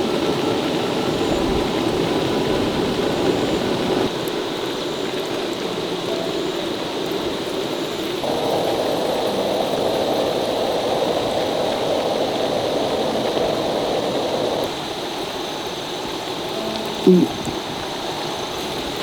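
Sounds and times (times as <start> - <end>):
rushing water hiss: 0.0 - 19.0.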